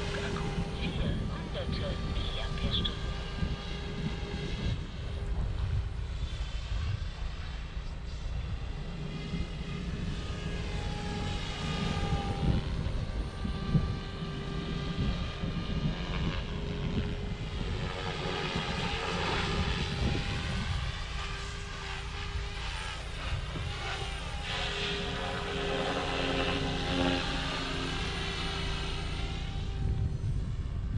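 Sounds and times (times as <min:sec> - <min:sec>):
helicopter rotor whir: 0:00.0 - 0:30.9
motor whine: 0:00.0 - 0:30.9.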